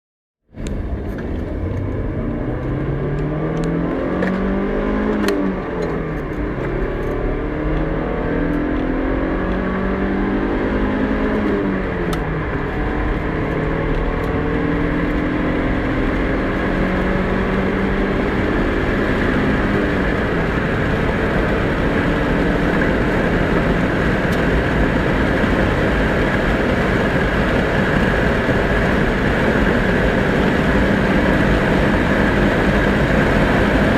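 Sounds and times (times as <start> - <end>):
car engine revving: 0.5 - 33.9
road and wind noise: 0.5 - 33.9.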